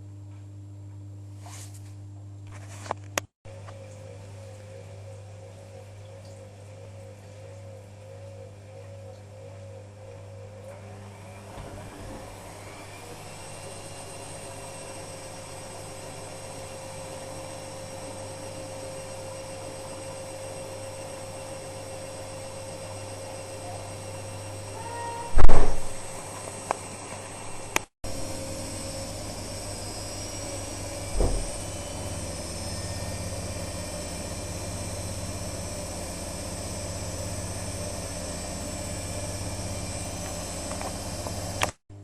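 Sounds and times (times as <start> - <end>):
washing machine drum motor whine: 3.5 - 42.0.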